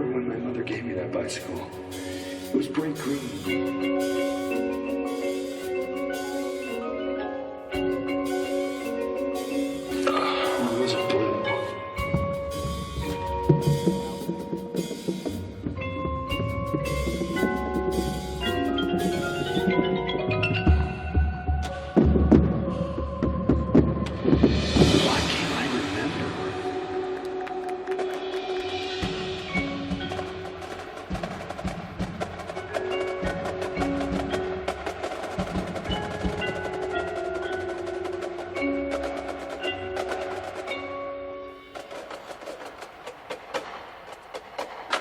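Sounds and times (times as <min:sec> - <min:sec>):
mallet keyboard notes: 0:01.1 - 0:23.5, 0:24.6 - 0:42.1.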